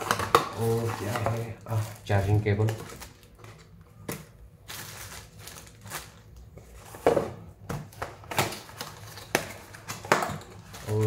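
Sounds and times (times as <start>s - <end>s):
plastic packaging crinkling: 0.0s - 6.9s, 7.9s - 11.0s.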